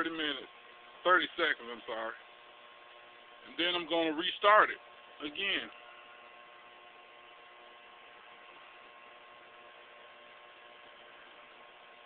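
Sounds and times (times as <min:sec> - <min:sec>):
microwave electrical hum: 0:00.0 - 0:12.0.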